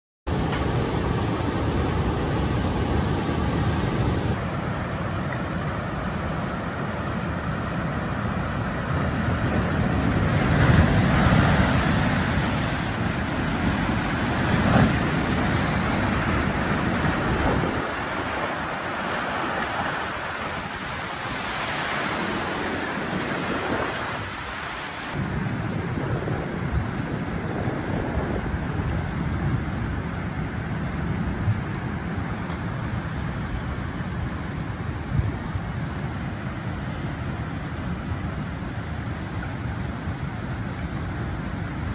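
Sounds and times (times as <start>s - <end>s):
wind buffeting microphone: 0.3s - 39.2s
seawater rushing and churning: 0.3s - 41.9s.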